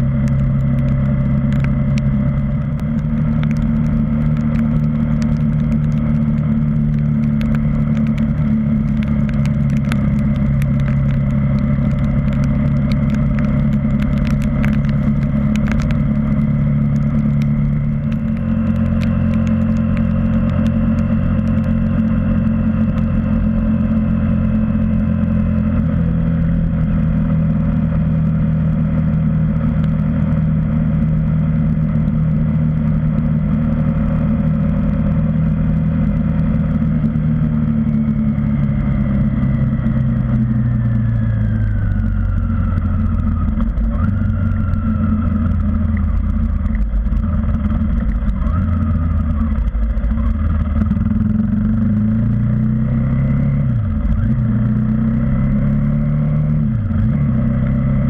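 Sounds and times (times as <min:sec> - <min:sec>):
motorcycle engine running: 0:00.0 - 0:58.0
rain ticks on camera: 0:00.2 - 0:58.0.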